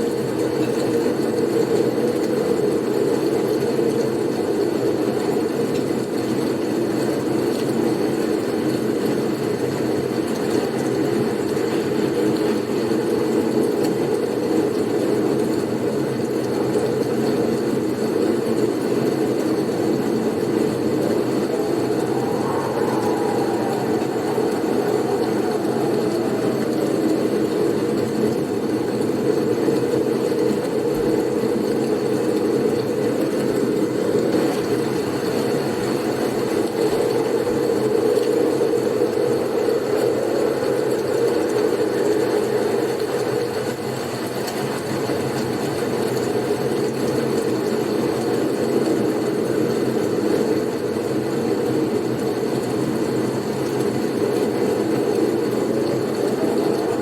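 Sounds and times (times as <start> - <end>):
howling blizzard wind: 0.0 - 57.0.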